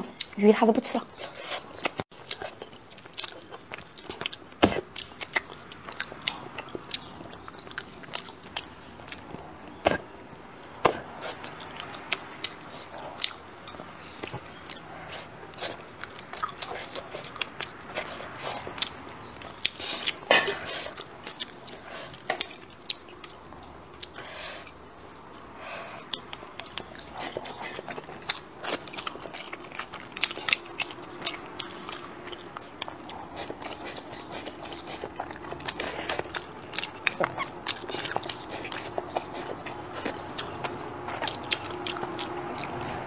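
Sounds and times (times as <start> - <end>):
chewing: 1.1 - 43.0.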